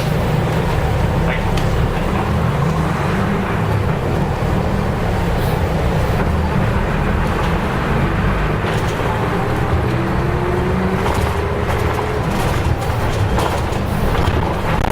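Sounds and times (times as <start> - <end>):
bus diesel engine rumble: 0.0 - 14.9.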